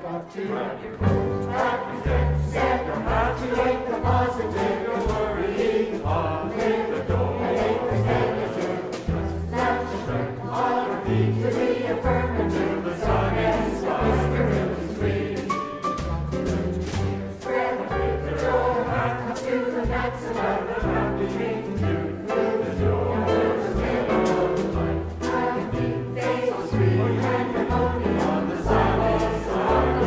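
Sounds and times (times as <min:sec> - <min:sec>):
choir singing jazz: 0:00.0 - 0:30.0
piano: 0:00.0 - 0:30.0
double bass low notes: 0:01.0 - 0:30.0.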